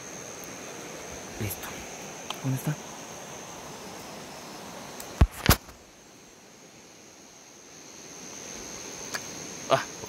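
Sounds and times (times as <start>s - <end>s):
high-pitched insect trill: 0.0s - 10.0s.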